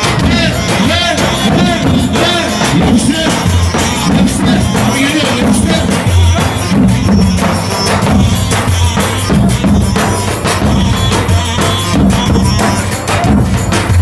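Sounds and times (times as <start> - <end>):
bass drum beaten in dance rhythm: 0.0 - 14.0
folk dance music: 0.0 - 14.0.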